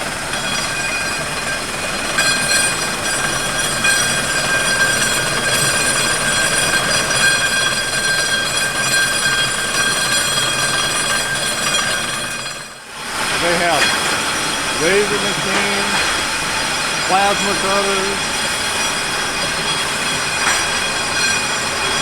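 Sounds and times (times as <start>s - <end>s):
vibratory deburring machine running: 0.0s - 22.0s.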